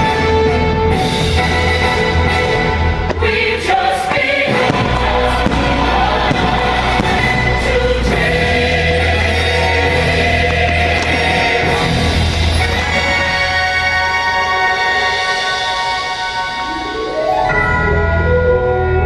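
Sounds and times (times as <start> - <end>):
choir singing long notes: 1.1 - 17.3.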